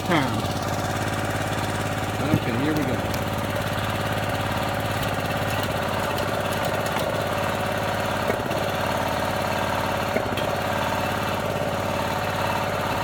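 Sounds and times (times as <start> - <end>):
small gas engine running: 0.0 - 13.0.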